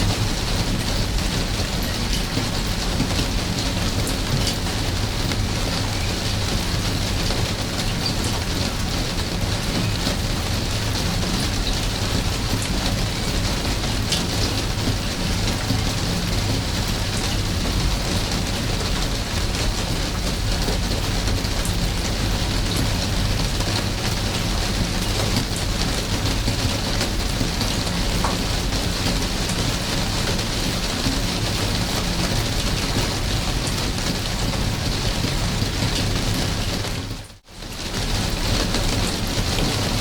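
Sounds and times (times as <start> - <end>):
rain falling: 0.0 - 40.0
raindrop ticks: 0.0 - 40.0.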